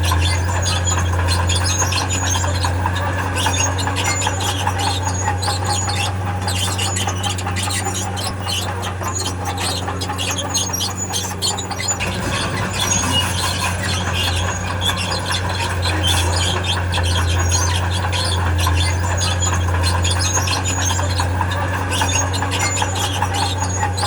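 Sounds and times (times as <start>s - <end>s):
crawler tracks squealing and clicking: 0.0s - 24.0s
diesel engine hum: 0.0s - 24.0s.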